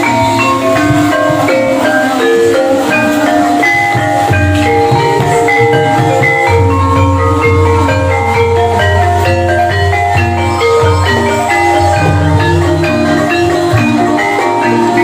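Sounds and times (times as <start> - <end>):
gamelan mallet notes: 0.0 - 15.0
steady low drum: 0.0 - 15.0.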